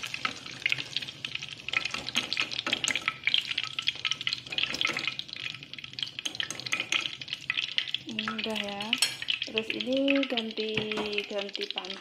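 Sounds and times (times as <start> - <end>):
eggplant deep-frying in oil: 0.0 - 12.0.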